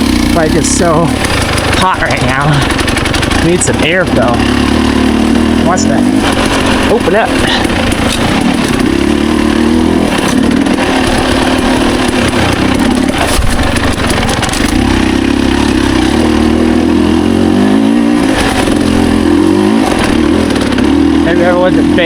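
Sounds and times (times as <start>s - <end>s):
dirt bike engine at low revs: 0.0s - 22.0s.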